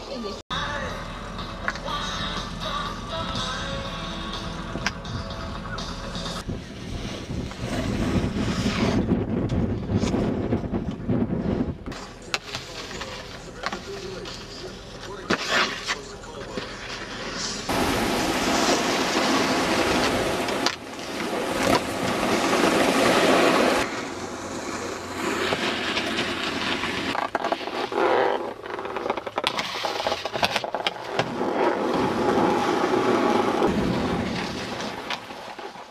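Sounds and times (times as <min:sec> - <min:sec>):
snowboards scraping over snow: 0:06.2 - 0:35.9.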